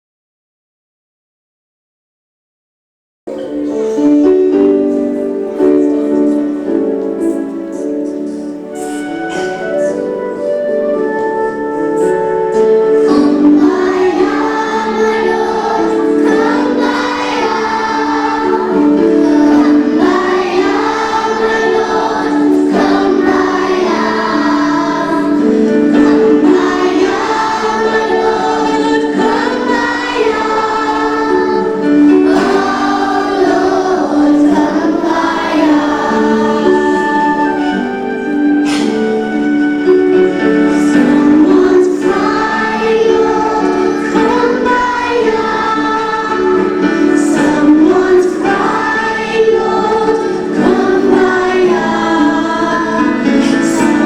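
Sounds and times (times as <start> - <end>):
children singing: 3.3 - 54.0
instrumental accompaniment: 3.3 - 54.0.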